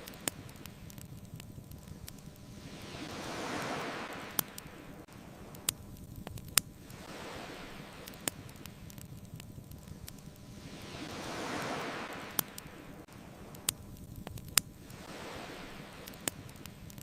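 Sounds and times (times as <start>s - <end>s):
bonfire crackling pops: 0.0s - 17.0s
ocean waves washing in: 0.0s - 17.0s.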